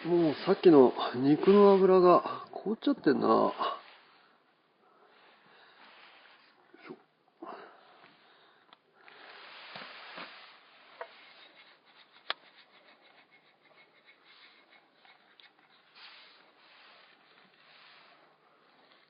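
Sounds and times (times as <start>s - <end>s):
faint rustling and scraping: 0.0s - 7.2s, 7.8s - 19.0s.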